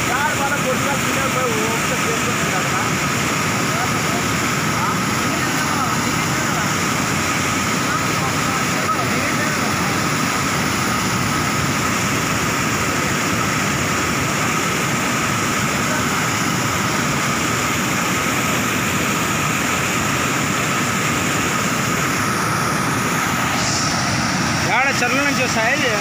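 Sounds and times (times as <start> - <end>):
floodwater rushing over weir: 0.0 - 26.0.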